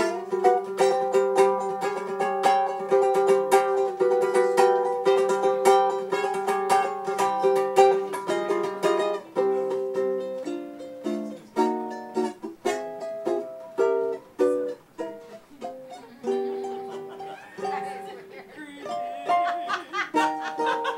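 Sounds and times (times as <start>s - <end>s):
ukulele strumming chords: 0.0s - 20.9s.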